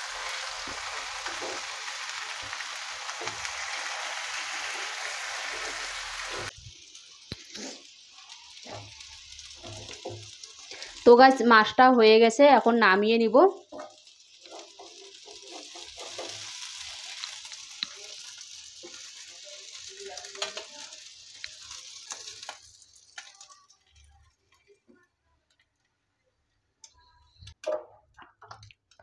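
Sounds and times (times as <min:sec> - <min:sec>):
fish sizzling in oil: 0:00.0 - 0:24.9.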